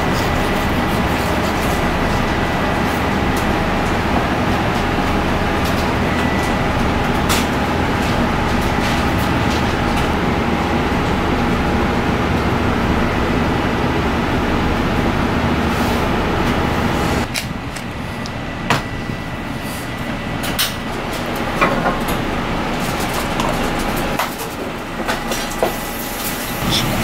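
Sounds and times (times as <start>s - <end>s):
rushing machinery noise: 0.0s - 27.0s.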